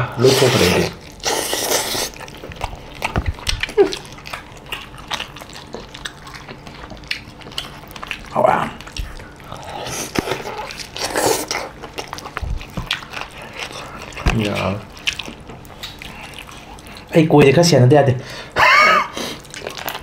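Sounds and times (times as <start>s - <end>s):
wet chewing and lip smacks: 1.0s - 17.2s, 19.3s - 20.0s.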